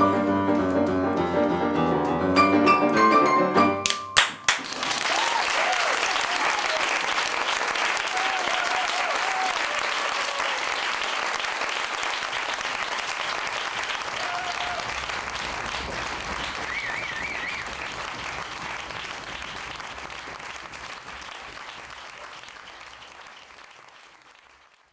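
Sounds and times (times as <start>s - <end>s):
audience applauding: 3.8s - 24.9s.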